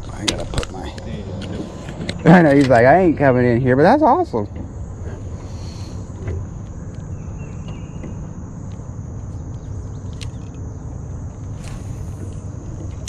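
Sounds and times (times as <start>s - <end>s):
boat motor humming: 0.0s - 13.0s
insects droning: 0.0s - 13.0s.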